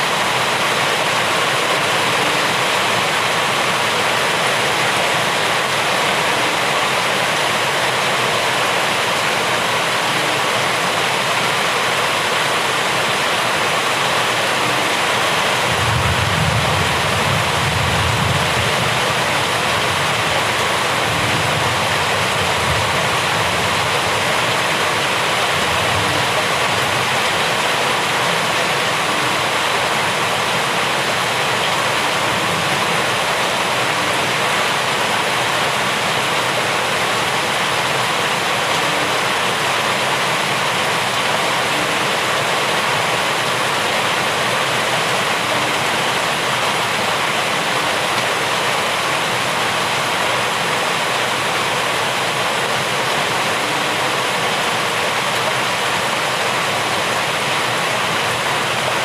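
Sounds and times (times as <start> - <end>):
heavy rainfall: 0.0 - 59.0.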